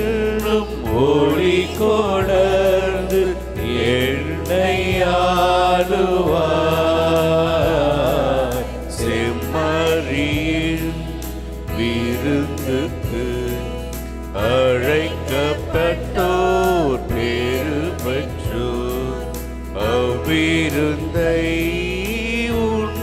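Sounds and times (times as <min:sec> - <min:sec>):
hymn singing: 0:00.0 - 0:23.0
instrumental accompaniment: 0:00.0 - 0:23.0.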